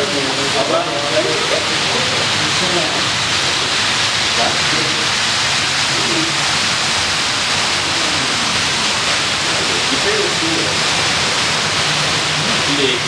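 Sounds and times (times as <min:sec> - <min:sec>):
faint voices murmuring: 0:00.0 - 0:11.5
steady hiss: 0:00.0 - 0:13.0.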